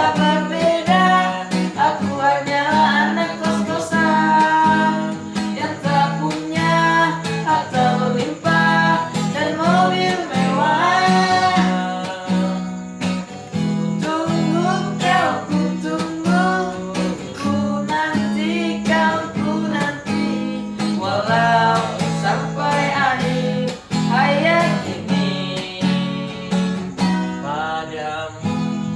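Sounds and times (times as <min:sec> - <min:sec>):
person singing: 0:00.0 - 0:12.9, 0:13.9 - 0:28.9
acoustic guitar strumming: 0:00.0 - 0:28.9.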